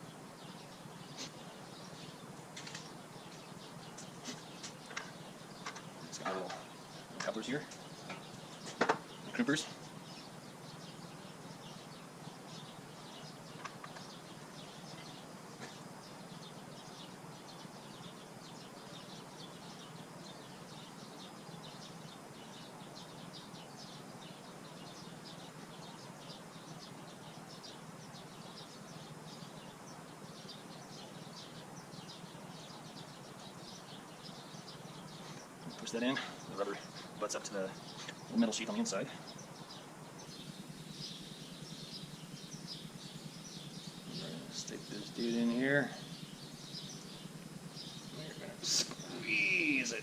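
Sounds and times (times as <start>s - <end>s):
low steady hum: 0.0s - 50.0s
small birds chirping: 0.0s - 50.0s.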